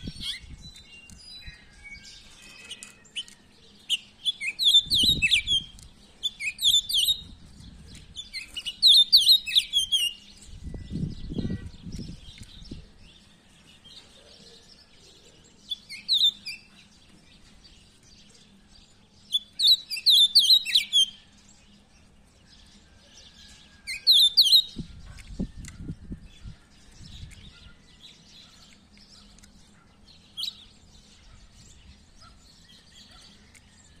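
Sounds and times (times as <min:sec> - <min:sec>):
songbird chirping: 0:00.0 - 0:34.0.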